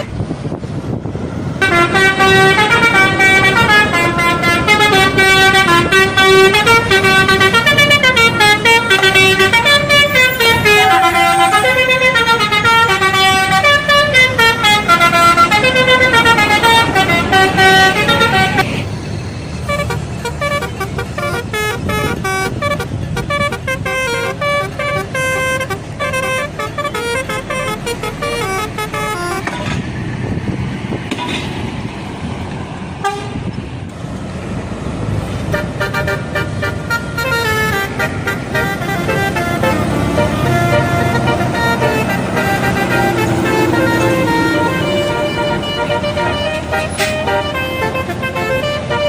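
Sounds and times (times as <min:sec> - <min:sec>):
bus engine and road noise: 0:00.0 - 0:49.0
multi-tone musical bus horn: 0:01.6 - 0:18.8, 0:19.6 - 0:29.8, 0:33.0 - 0:33.6, 0:35.4 - 0:49.0.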